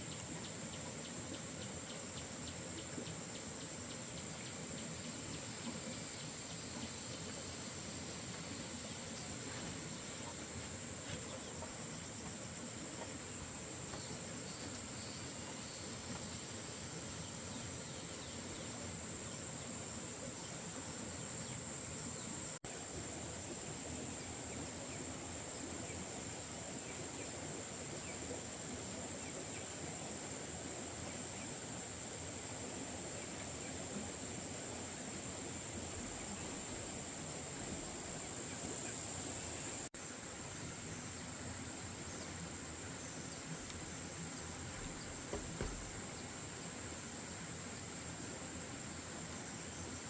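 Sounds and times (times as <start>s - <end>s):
insects droning: 0.0s - 50.0s
outdoor background noise: 0.0s - 50.0s.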